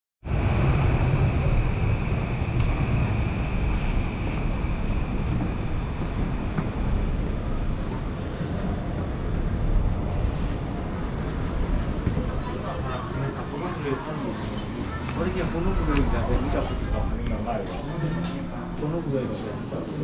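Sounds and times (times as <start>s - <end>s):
traffic rumble: 0.2s - 20.0s.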